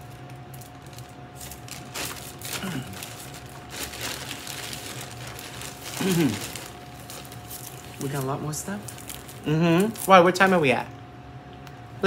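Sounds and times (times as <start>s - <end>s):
packaging rustling: 0.0s - 10.6s
electrical hum: 0.0s - 12.0s.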